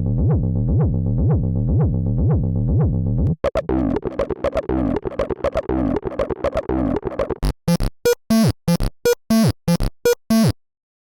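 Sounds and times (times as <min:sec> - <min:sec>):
synth acid bass pattern: 0:00.0 - 0:10.6.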